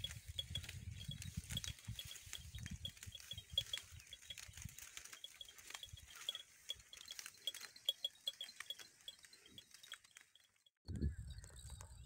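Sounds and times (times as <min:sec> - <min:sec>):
goats chewing grass: 0:00.0 - 0:10.6
high chirp: 0:00.0 - 0:11.5.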